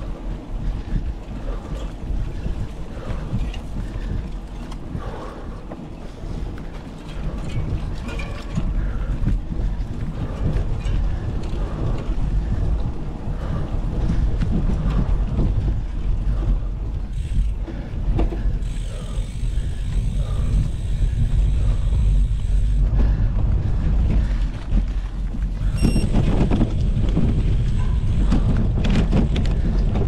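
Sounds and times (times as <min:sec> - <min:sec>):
bike rattling over dirt trail: 0:00.0 - 0:30.0
tyres rumbling: 0:00.0 - 0:30.0
wind on microphone: 0:00.0 - 0:30.0.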